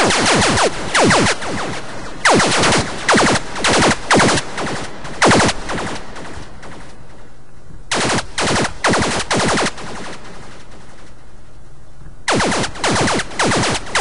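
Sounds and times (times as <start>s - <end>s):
synth laser zaps: 0.0s - 7.2s, 7.9s - 11.1s, 12.3s - 14.0s.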